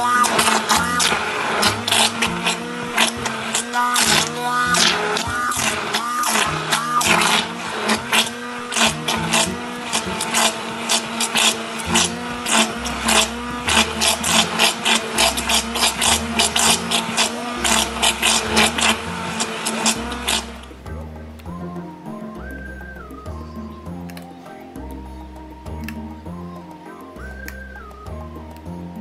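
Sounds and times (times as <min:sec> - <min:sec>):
music with quick beat and bass: 0:00.0 - 0:29.0.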